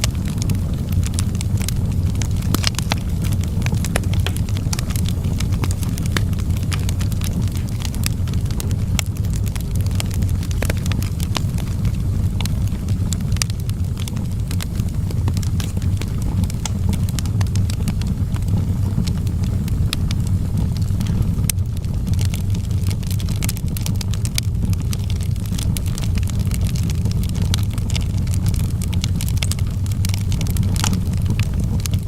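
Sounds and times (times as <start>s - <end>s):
low rumble of flames: 0.0s - 32.0s
wood fire crackling and popping: 0.0s - 32.0s.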